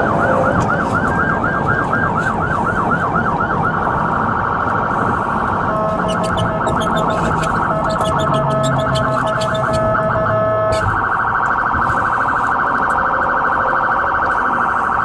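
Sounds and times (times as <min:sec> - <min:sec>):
engine and road rumble: 0:00.0 - 0:15.0
police siren: 0:00.0 - 0:15.0.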